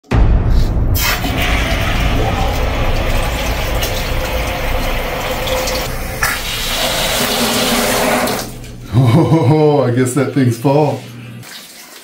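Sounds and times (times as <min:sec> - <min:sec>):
water running into a container: 0:01.0 - 0:12.0.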